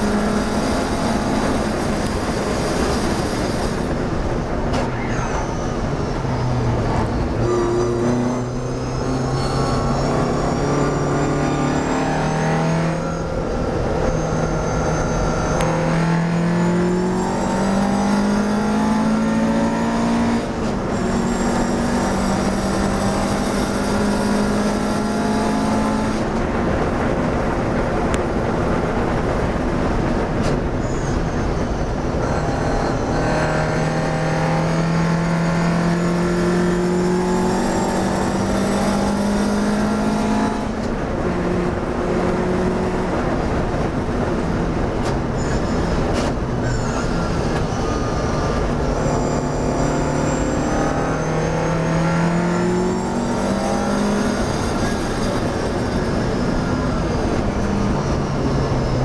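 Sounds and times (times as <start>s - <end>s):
racing car engine accelerating: 0.0s - 59.0s.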